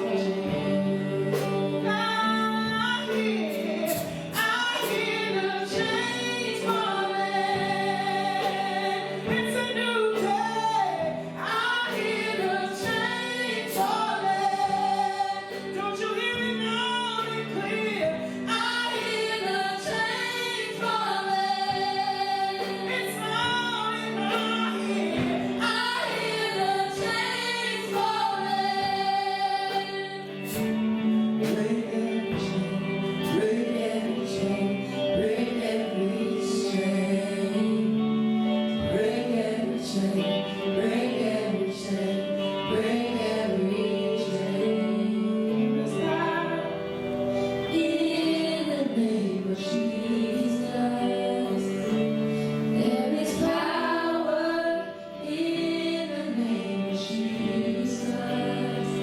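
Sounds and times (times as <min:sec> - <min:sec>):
woman singing gospel: 0:00.0 - 0:59.0.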